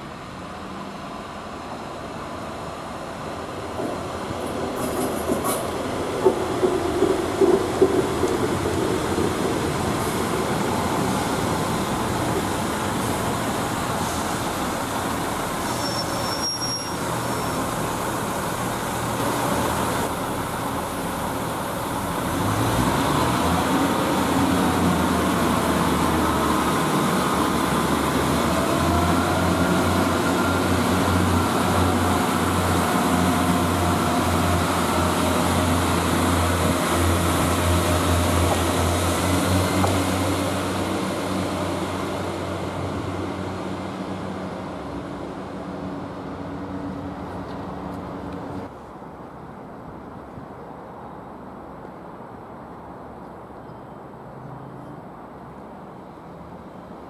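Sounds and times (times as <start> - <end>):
diesel train engine whining: 0.0 - 48.7.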